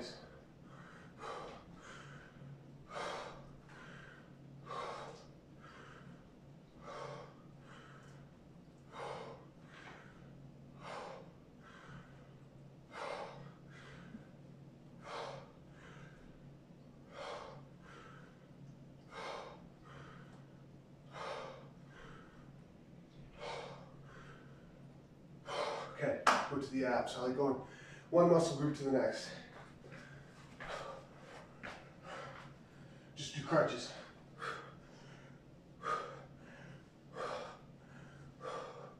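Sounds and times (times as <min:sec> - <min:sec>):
man breathing heavily: 0:00.0 - 0:38.9.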